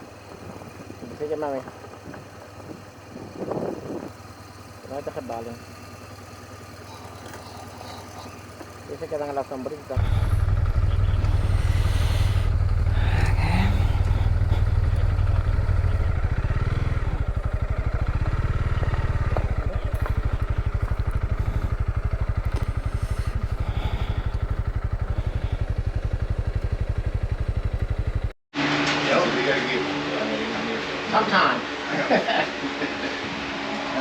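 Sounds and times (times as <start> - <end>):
motorcycle engine running: 0.0 - 28.4.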